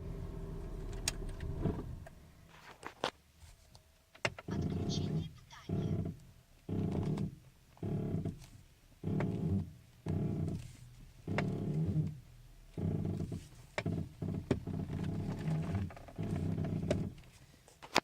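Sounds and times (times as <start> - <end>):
car part creaking: 0.6 - 3.0, 4.2 - 18.0.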